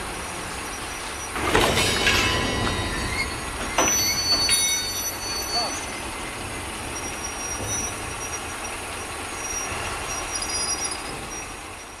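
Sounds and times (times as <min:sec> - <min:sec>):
train rolling rumble: 0:00.0 - 0:12.0
faint high wheel squeals: 0:00.2 - 0:12.0.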